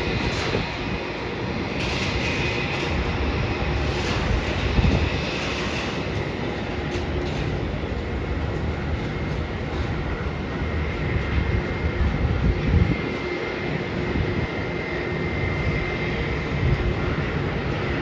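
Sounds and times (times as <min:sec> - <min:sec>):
jet engines roaring: 0:00.0 - 0:18.0
wind buffeting microphone: 0:00.0 - 0:18.0.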